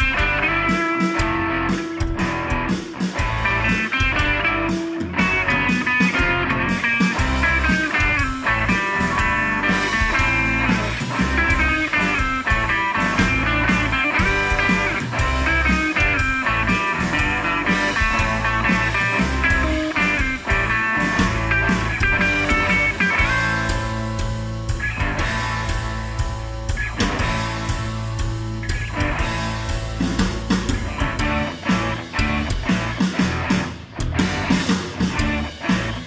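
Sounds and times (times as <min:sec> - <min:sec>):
rock music with electric guitar: 0:00.0 - 0:36.0.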